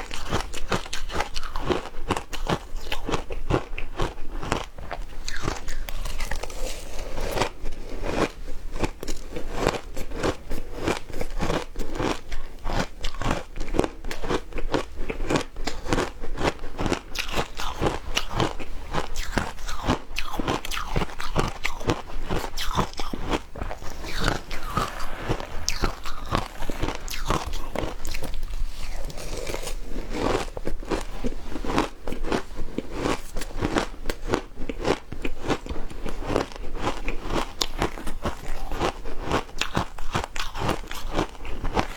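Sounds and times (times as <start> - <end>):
ice crunching while chewed: 0.0 - 41.9.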